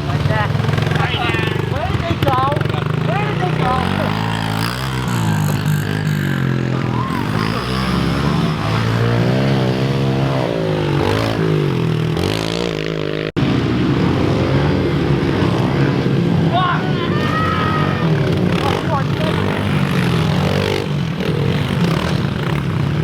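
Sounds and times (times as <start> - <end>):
pit bike engines revving: 0.0 - 23.0.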